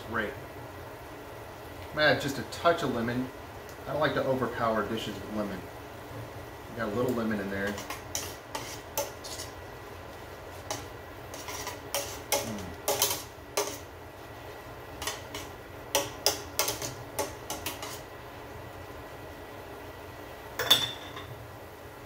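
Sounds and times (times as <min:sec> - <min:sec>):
wine reducing in a pan: 0:00.0 - 0:22.0.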